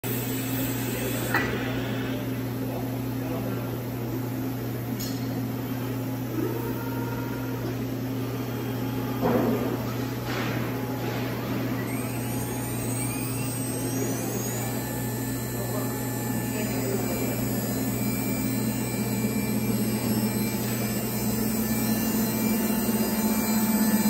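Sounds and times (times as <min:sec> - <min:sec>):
industrial machinery humming: 0:00.0 - 0:24.0.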